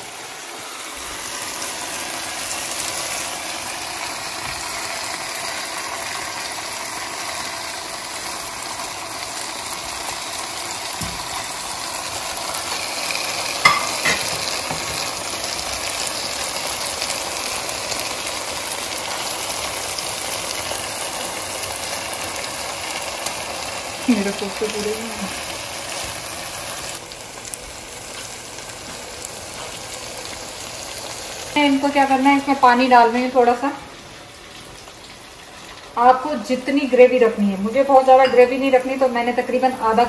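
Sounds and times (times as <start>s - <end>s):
sauce sizzling in a pan: 0.0s - 40.0s.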